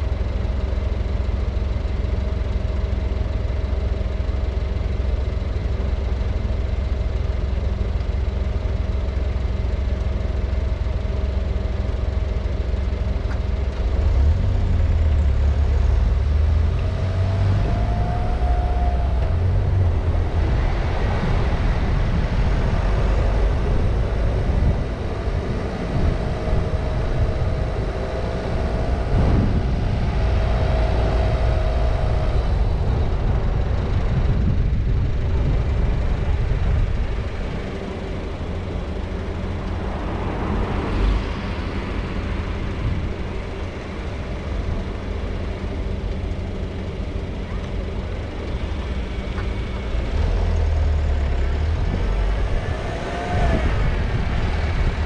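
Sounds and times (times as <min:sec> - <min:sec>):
car engine idling: 0:00.0 - 0:55.0
car pulling away: 0:00.0 - 0:55.0
road and tyre noise: 0:00.0 - 0:55.0.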